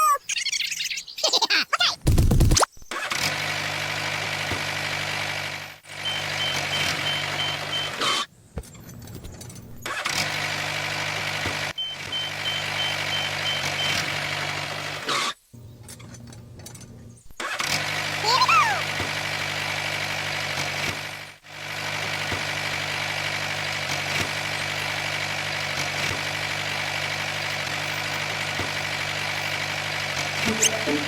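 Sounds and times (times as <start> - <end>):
vehicle engine running: 3.1 - 31.0.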